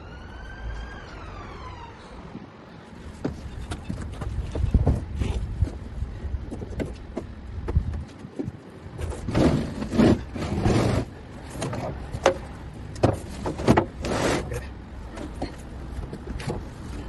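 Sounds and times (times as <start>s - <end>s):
knocks and scraping: 2.3s - 17.0s.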